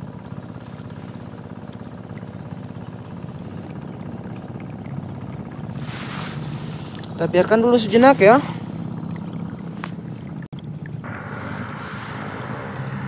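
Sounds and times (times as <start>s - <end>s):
faint high whine: 0.0s - 13.0s
low fluttering engine drone: 0.0s - 13.0s.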